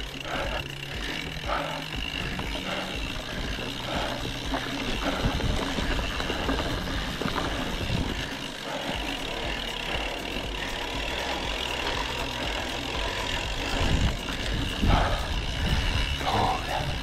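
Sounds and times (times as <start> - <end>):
bike knocking and rattling: 0.0 - 17.0
wind buffeting microphone: 1.4 - 8.7, 9.9 - 17.0.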